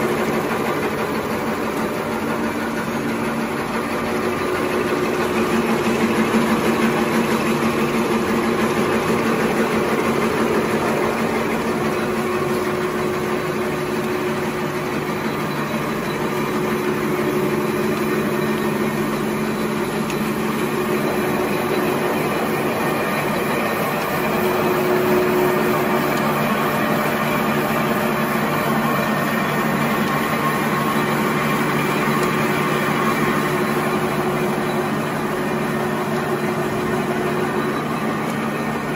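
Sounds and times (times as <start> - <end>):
machine motors and rollers din: 0.0 - 38.9.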